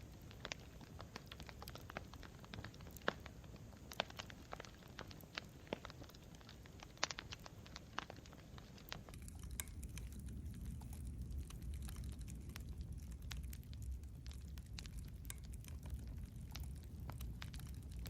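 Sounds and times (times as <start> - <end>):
campfire crackling: 0.0 - 18.0
low rumble of flames: 0.0 - 18.0.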